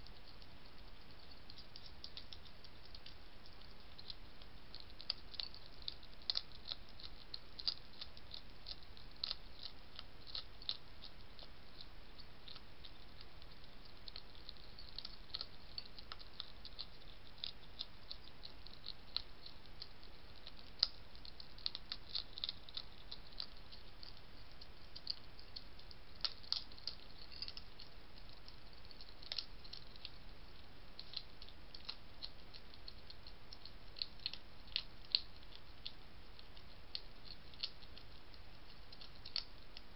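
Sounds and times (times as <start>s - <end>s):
faint steady hiss: 0.0s - 39.9s
hedgehog crunching dry food: 0.0s - 39.9s.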